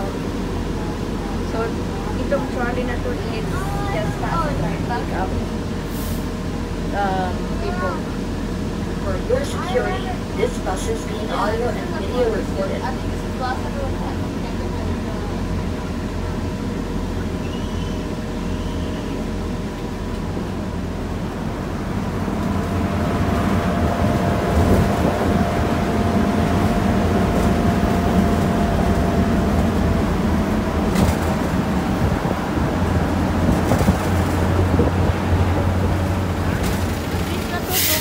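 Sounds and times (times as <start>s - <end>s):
bus engine and road rumble: 0.0s - 38.0s
wind through open sides: 0.0s - 38.0s.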